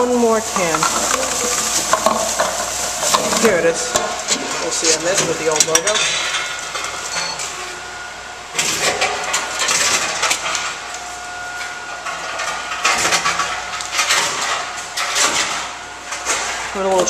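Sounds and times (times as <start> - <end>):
vending machine whirring: 0.0 - 17.0.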